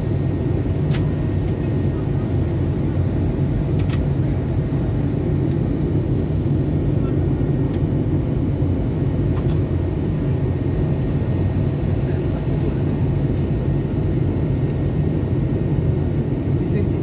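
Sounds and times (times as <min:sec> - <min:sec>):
airliner cabin engine drone: 0:00.0 - 0:17.0.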